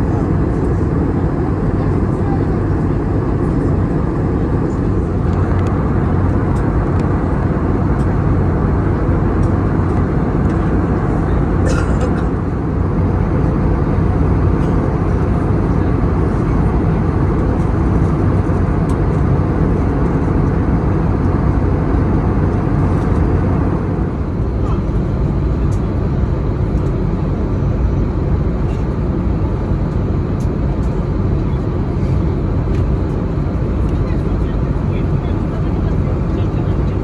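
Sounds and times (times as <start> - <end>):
aircraft cabin engine noise: 0.0 - 37.0.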